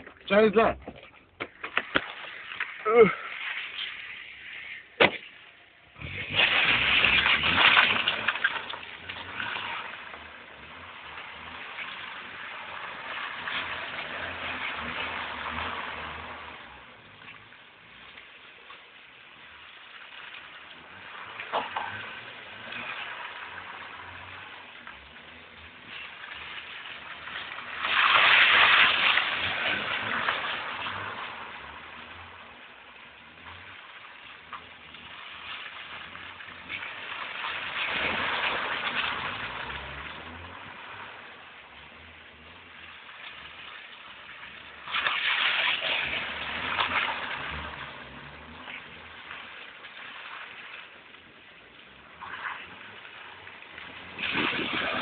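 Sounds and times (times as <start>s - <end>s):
car tyres and engine: 0.0s - 55.0s.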